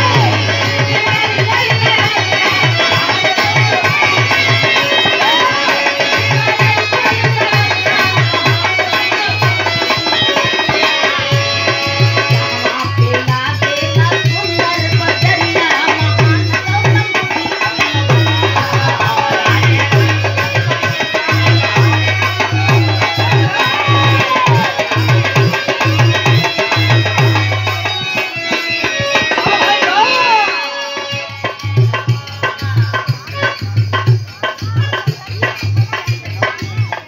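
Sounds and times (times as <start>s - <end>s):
hand drum rhythm: 0.0s - 37.0s.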